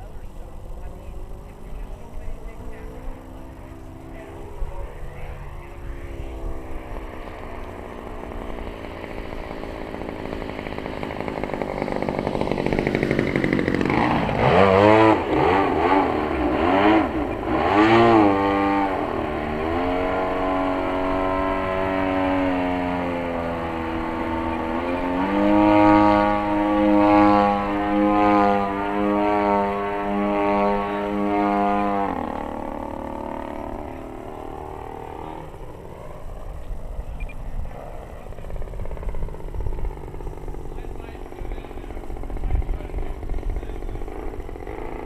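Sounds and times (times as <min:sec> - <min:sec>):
model plane engine droning: 0:00.0 - 0:45.0.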